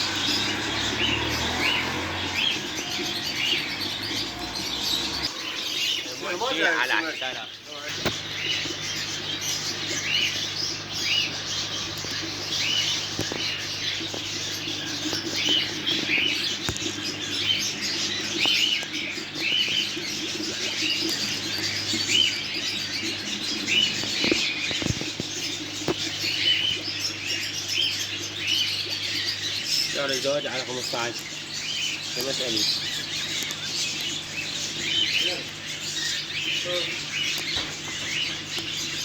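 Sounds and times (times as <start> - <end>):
caged birds chirping: 0.0 - 39.0.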